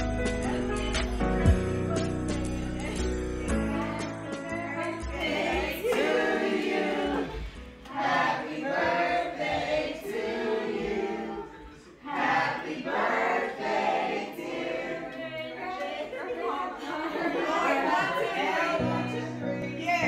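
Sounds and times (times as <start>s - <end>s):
group of people singing: 0.0s - 20.0s.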